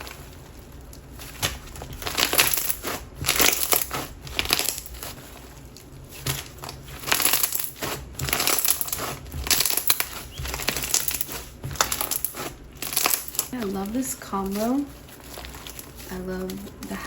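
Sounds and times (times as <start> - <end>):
gritty crunching of slime: 0.0 - 17.0.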